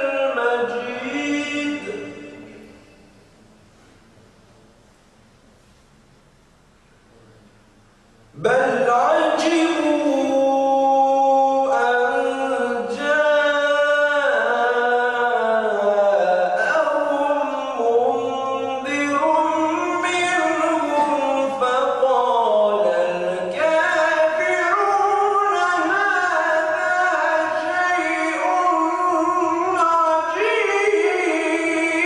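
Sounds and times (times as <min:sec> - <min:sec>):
man chanting recitation: 0:00.0 - 0:03.0, 0:08.3 - 0:32.0.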